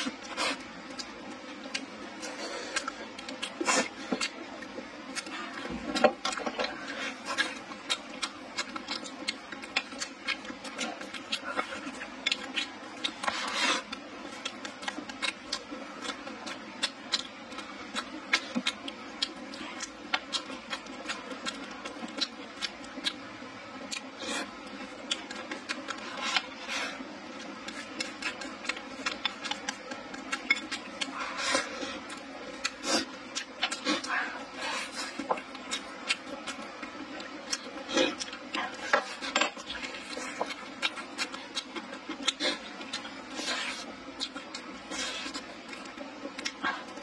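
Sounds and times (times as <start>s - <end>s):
person chewing and lip-smacking: 0.0s - 47.0s.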